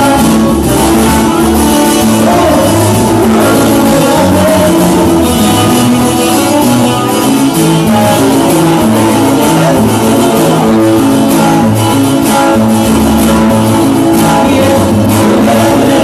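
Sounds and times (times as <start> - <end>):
band playing loud music: 0.0 - 16.0.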